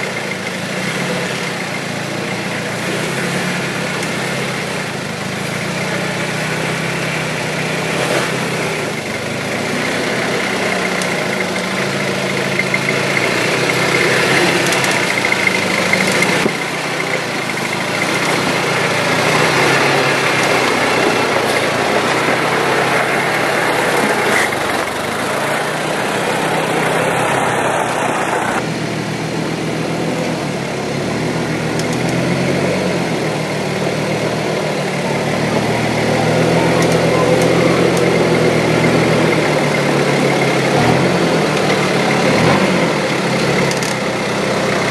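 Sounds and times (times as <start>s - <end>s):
diesel engine running at low revs: 0.0s - 44.9s.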